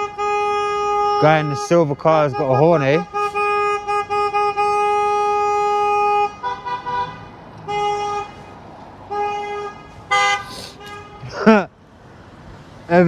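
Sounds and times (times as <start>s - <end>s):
car horns honking: 0.0s - 11.7s.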